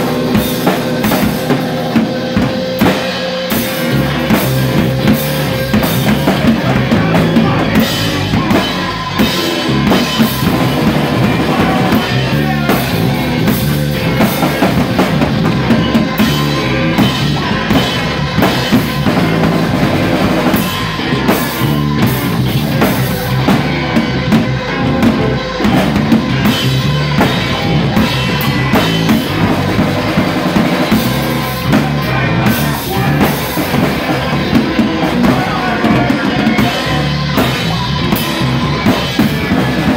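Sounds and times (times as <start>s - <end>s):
drum kit and bass drum: 0.0s - 39.9s
rock band playing live: 0.0s - 39.9s.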